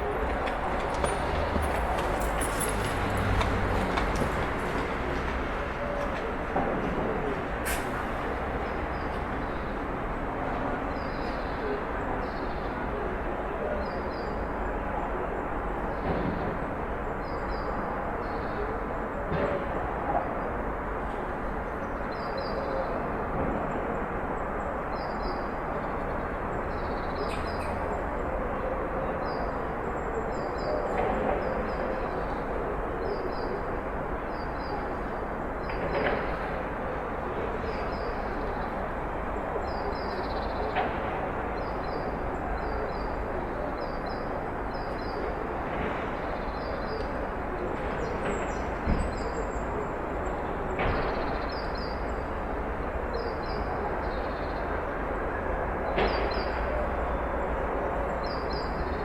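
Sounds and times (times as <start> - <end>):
traffic rumble: 0.0 - 13.6, 22.8 - 59.0.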